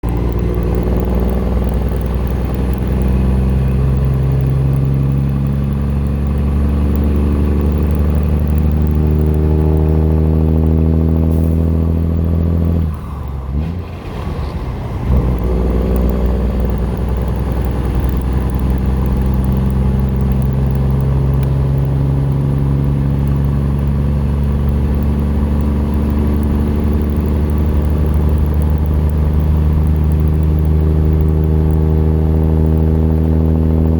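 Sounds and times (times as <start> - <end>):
diesel truck engine pulling: 0.0 - 33.9
turbocharger whine: 0.0 - 33.9.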